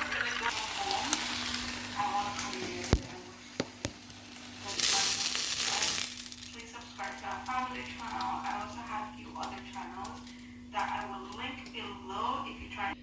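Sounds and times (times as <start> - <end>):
fish sizzling in hot oil: 0.0 - 11.1
steady low hum: 0.0 - 13.0.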